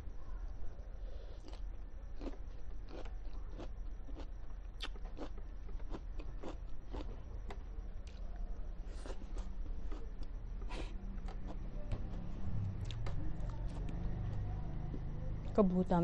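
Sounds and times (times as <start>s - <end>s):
steady low hum: 0.0s - 16.0s
person chewing food: 1.2s - 15.0s.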